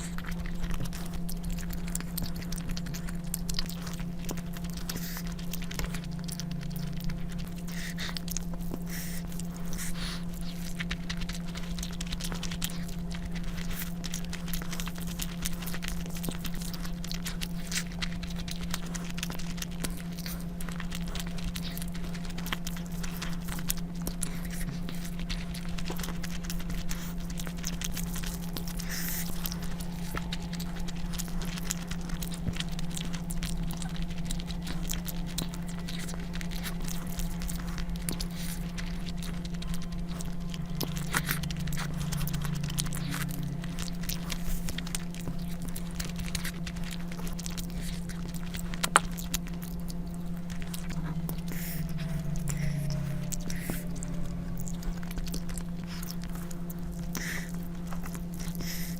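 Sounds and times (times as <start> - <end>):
low hum: 0.0 - 58.9
wet chewing clicks and smacks: 0.0 - 58.9.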